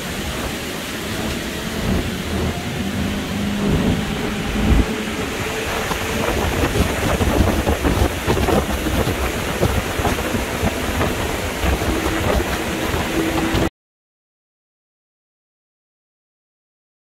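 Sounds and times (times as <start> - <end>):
boat motor running: 0.0 - 13.7
wind buffeting microphone: 0.0 - 13.7.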